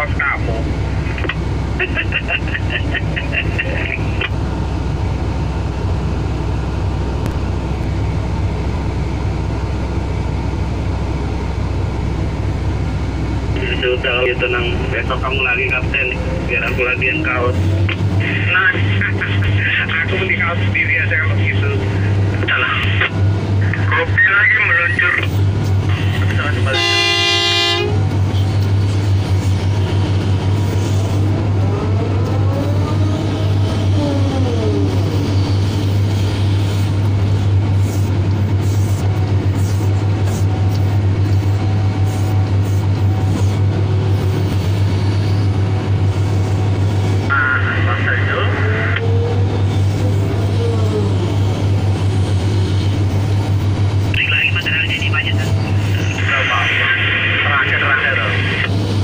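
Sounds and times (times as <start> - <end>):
excavator diesel engine droning: 0.0 - 59.0.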